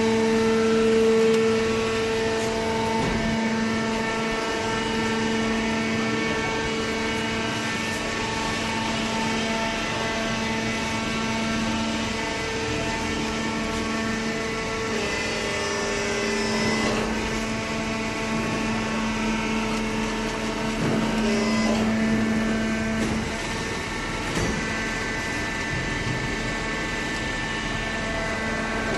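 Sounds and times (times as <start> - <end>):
baling machine hum: 0.0 - 28.9.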